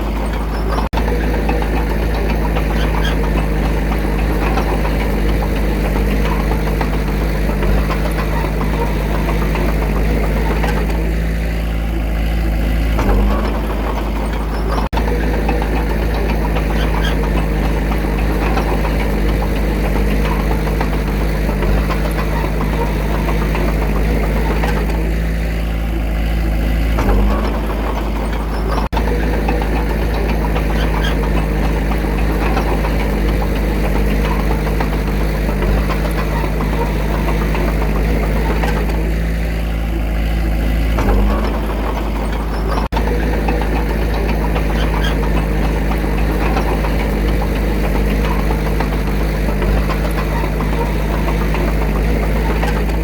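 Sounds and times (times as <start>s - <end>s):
diesel engine rumbling: 0.0s - 53.0s.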